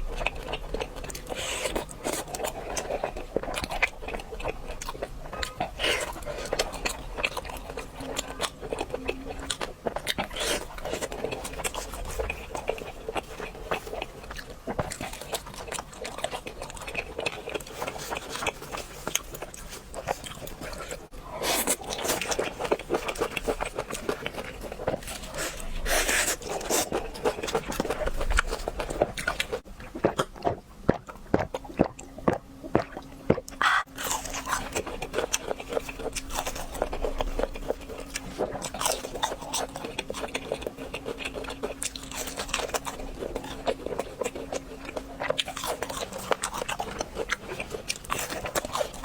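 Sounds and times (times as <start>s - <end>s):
crunchy food being chewed: 0.0s - 49.0s.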